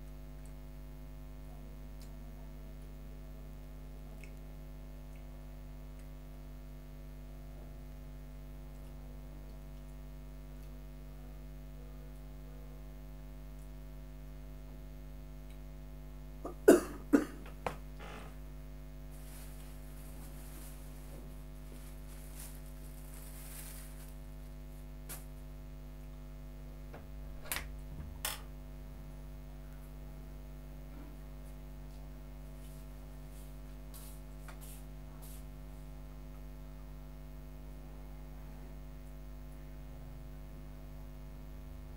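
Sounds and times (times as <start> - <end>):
electrical mains hum: 0.0 - 41.9.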